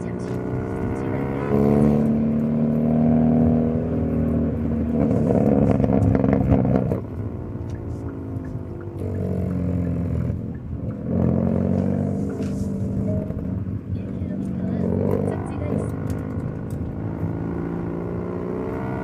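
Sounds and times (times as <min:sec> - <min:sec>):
car engine and exhaust pulling: 0:00.0 - 0:19.0.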